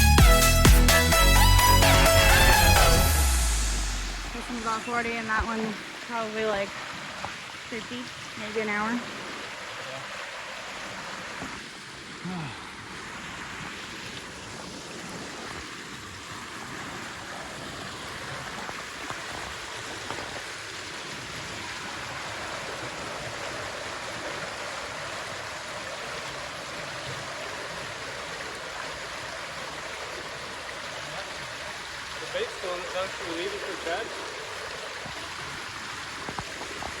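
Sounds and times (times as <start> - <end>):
creek water flowing: 0.0 - 37.0.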